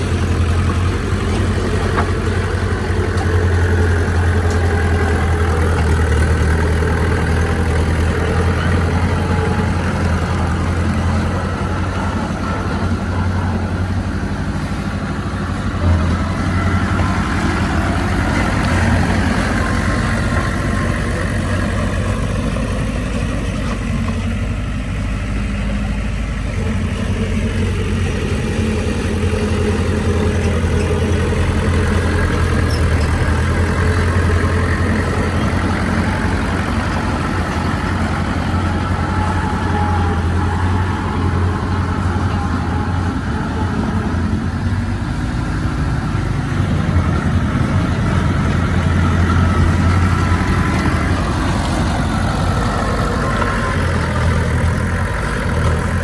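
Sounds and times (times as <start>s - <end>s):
heavy diesel engine drone: 0.0s - 56.0s.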